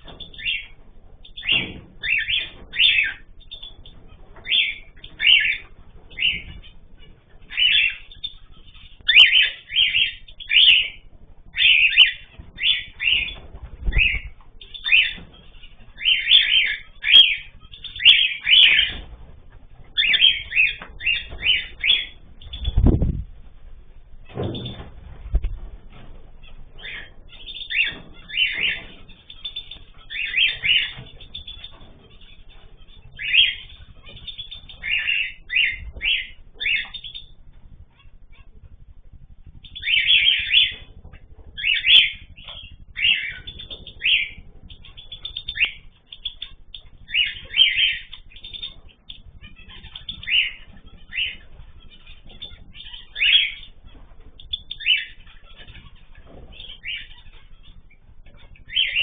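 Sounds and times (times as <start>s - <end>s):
cage birds chirping and squawking: 0.0s - 59.0s.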